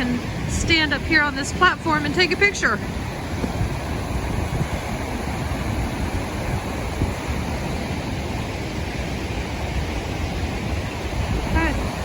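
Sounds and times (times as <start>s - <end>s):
waterfall roaring: 0.0s - 12.0s
wind buffeting microphone: 0.0s - 12.0s.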